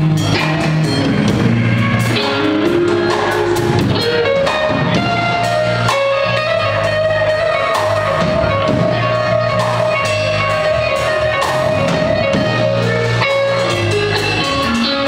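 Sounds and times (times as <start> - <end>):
drum kit and cymbals: 0.0 - 15.0
electric guitar holding notes: 0.0 - 15.0.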